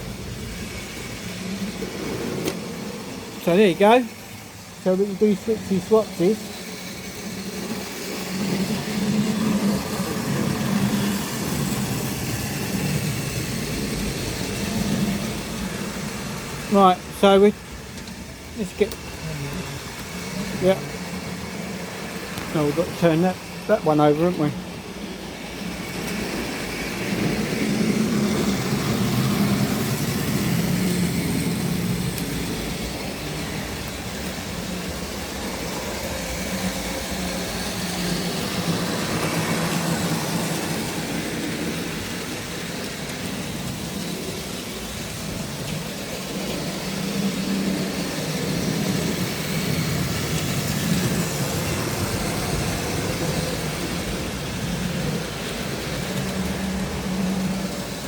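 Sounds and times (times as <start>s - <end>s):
model train motor hum: 0.0s - 58.0s
wheel and rail noise: 0.0s - 58.0s.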